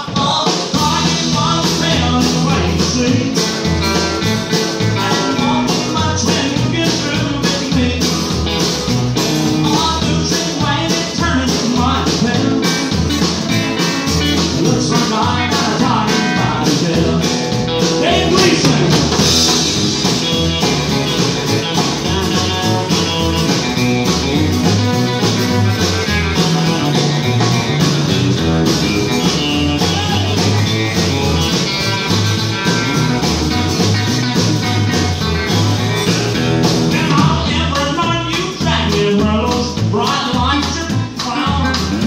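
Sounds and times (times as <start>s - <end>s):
live country band playing: 0.0s - 42.0s
electric guitar lead: 0.8s - 38.7s.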